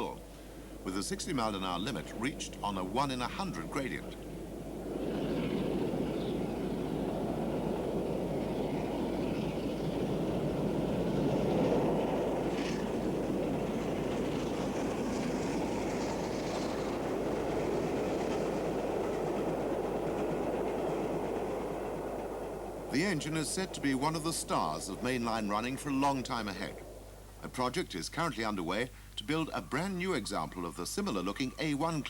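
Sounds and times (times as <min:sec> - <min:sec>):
steam locomotive rumbling: 0:00.0 - 0:32.0.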